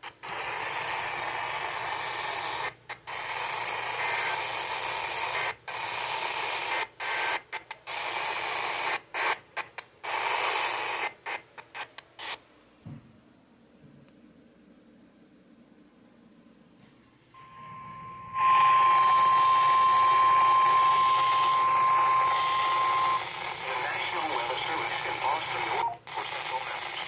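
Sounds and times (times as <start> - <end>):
radio static hiss: 0.0 - 13.0, 16.8 - 27.0.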